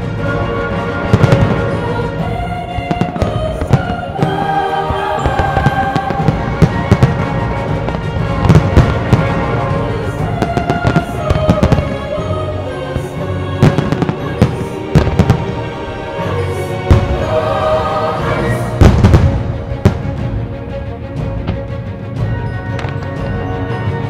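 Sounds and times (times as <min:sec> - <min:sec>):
loud music with held notes: 0:00.0 - 0:24.0.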